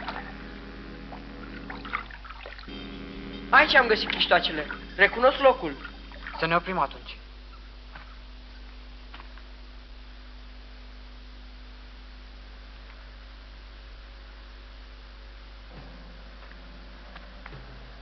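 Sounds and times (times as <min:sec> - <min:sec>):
film soundtrack hiss: 0:00.0 - 0:18.0
low mains hum: 0:00.0 - 0:18.0.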